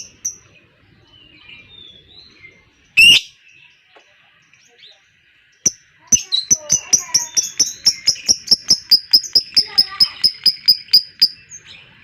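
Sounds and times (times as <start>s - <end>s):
bird twittering warbles: 0.0s - 12.0s.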